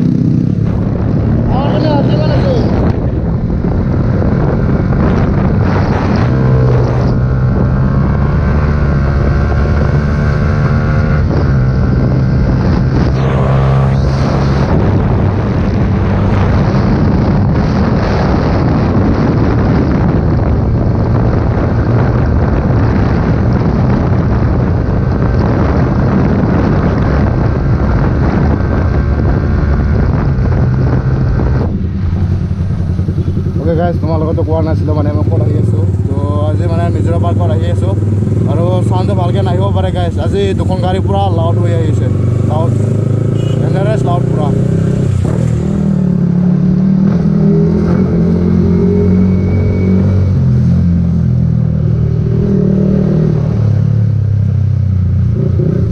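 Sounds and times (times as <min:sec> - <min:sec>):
motorcycle exhaust note: 0:00.0 - 0:55.9
wind buffeting microphone: 0:00.0 - 0:55.9.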